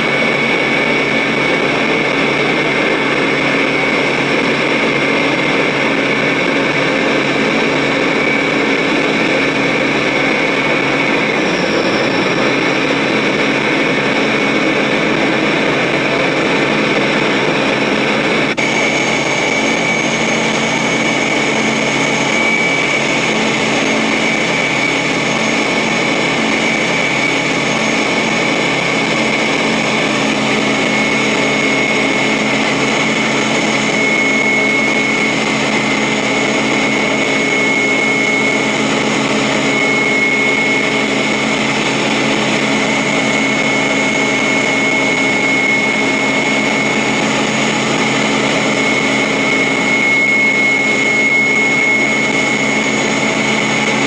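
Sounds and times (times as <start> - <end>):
high-pitched whine: 0.0 - 54.0
mechanical drone: 0.0 - 54.0.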